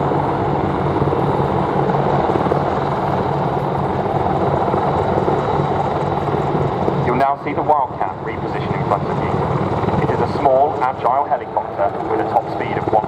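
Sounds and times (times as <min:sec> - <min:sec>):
helicopters flying: 0:00.0 - 0:13.0.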